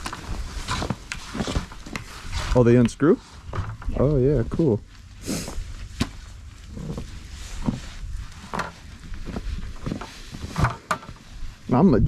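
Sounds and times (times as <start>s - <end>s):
steady low rumble: 0.0s - 10.4s.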